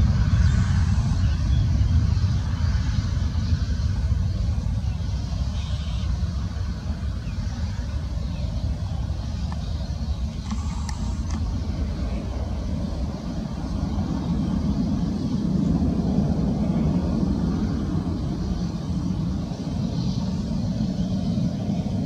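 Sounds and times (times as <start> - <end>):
jet engines roaring at takeoff: 0.0 - 22.0.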